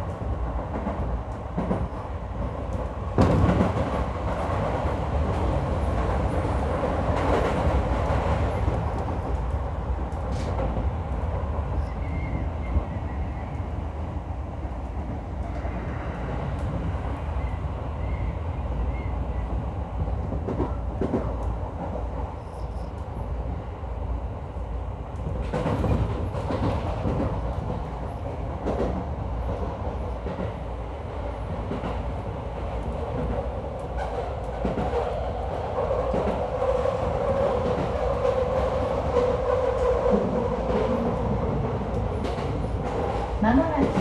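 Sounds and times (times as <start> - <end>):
train running gear rumble: 0.0 - 44.0.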